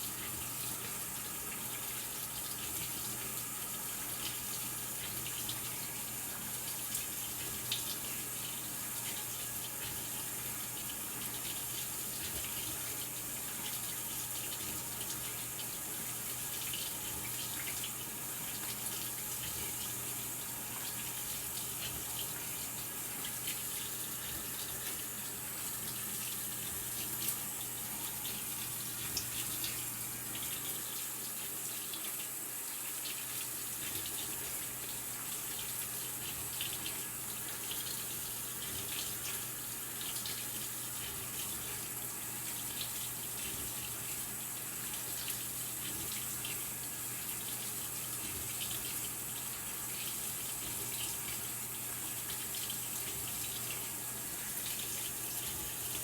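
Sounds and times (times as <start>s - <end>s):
running water stream: 0.0s - 56.0s.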